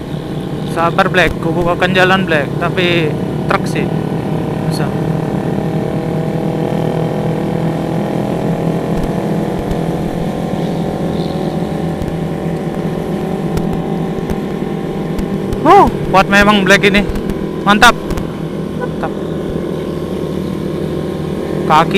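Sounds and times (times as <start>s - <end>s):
motorcycle engine running: 0.0s - 21.9s
road and wind noise: 0.0s - 21.9s.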